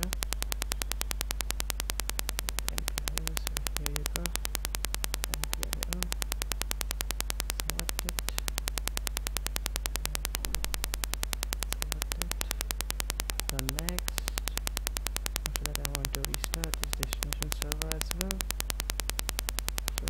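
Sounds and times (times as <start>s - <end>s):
electrical hum and buzzing: 0.0s - 20.0s.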